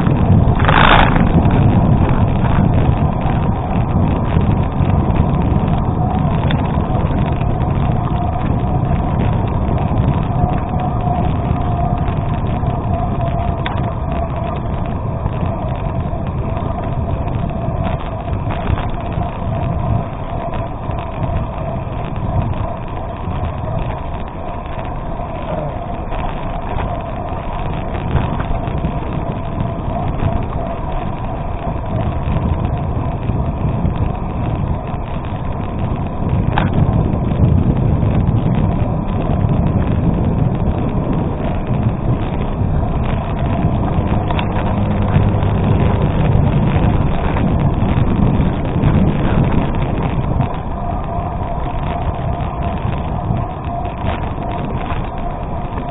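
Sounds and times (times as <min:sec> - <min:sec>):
bicycle tyres crunching on gravel: 0:00.0 - 0:55.9
wind on microphone: 0:00.0 - 0:55.9.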